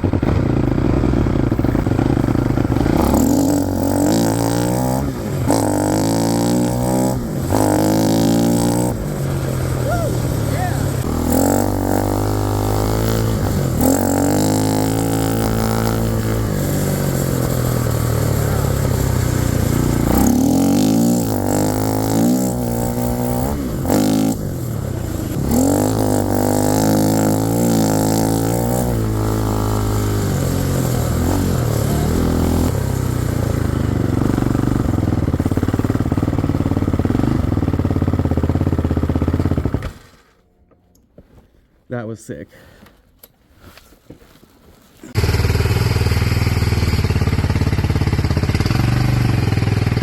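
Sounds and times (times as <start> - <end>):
single-cylinder engine revving: 0.0 - 40.3, 45.1 - 50.0.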